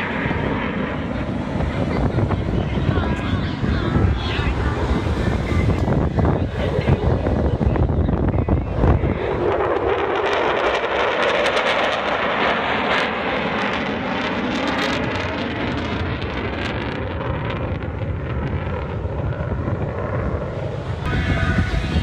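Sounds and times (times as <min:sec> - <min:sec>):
aircraft roar: 0:00.0 - 0:22.0.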